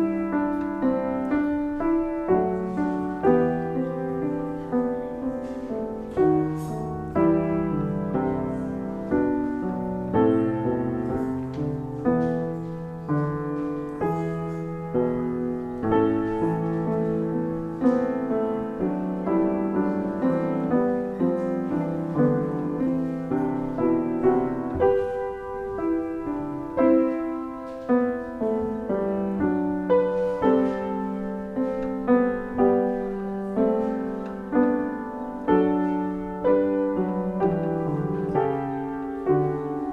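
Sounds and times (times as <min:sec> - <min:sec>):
piano playing slow chords: 0:00.0 - 0:39.9.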